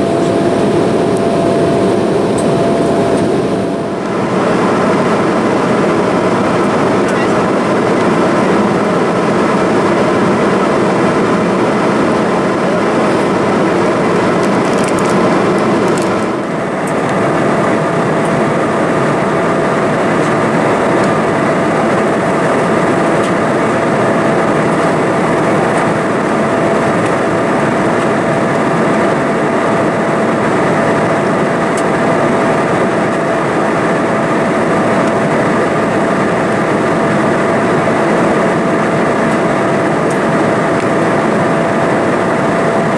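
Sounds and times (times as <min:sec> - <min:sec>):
aircraft cabin engine rushing noise: 0:00.0 - 0:42.9
steady mid-pitched hum: 0:00.0 - 0:42.9.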